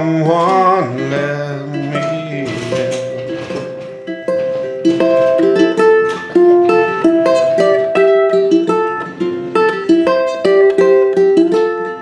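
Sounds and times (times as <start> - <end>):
ukulele fingerpicked: 0.0 - 12.0.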